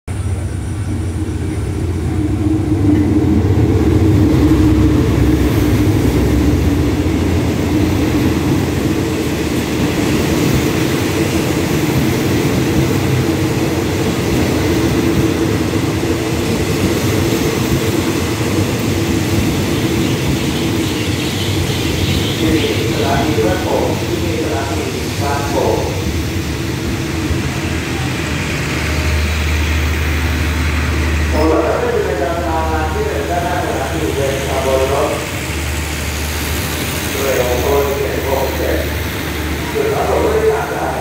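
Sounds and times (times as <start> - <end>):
locomotive engine drone: 0.1 - 10.6, 12.0 - 41.0
train coaches rumbling on rails: 0.1 - 41.0.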